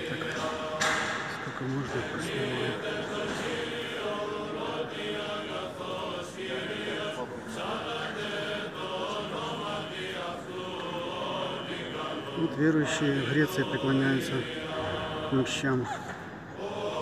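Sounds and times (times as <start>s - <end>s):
voices chanting long held notes: 0.0s - 17.0s.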